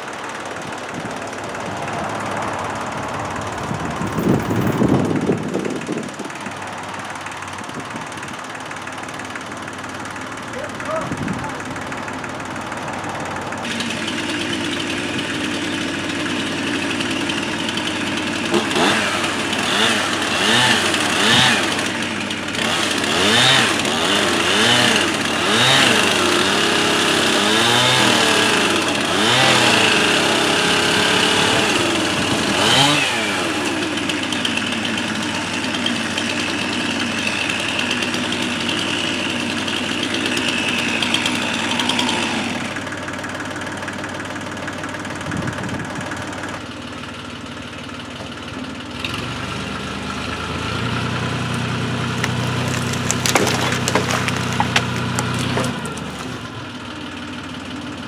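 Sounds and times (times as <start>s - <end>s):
chainsaw revving: 0.0s - 46.6s, 48.9s - 57.2s
tractor engine idling: 0.0s - 58.0s.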